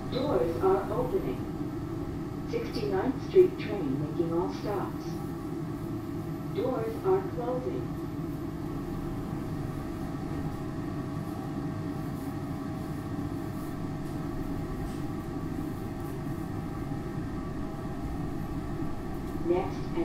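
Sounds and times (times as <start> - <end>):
rail car rumble and hum: 0.0 - 20.0.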